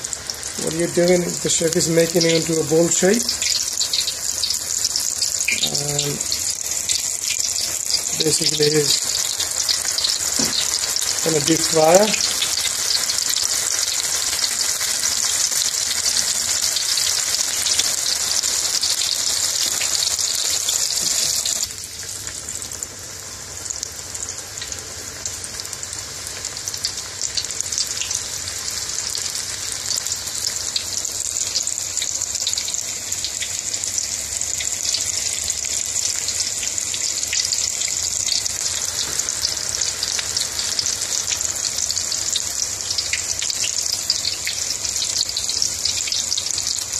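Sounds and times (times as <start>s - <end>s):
deep-frying sizzle with crackles: 0.0s - 46.9s.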